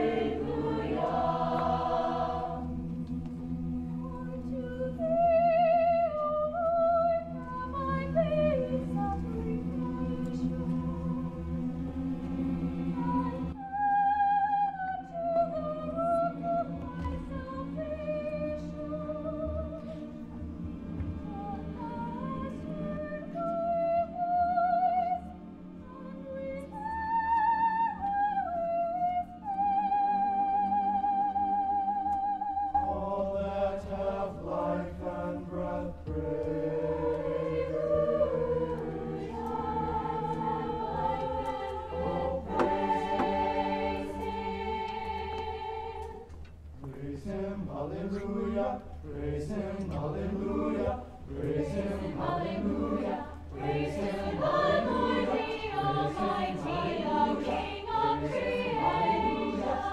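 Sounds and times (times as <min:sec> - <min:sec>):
choir singing long held notes: 0:00.0 - 0:59.9.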